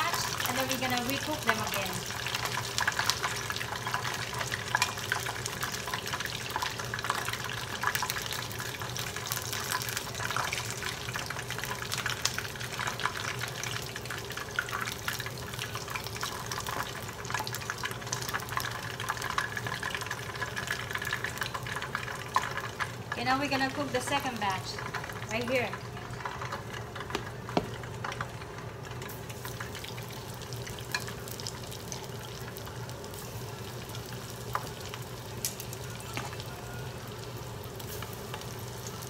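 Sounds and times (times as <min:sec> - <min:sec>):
chicken frying in oil: 0:00.0 - 0:39.0.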